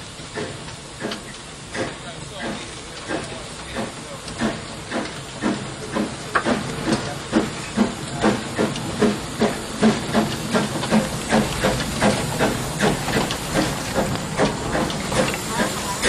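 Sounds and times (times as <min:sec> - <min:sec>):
hiss of steam: 0:00.0 - 0:16.0
steam locomotive chuffing: 0:00.0 - 0:16.0.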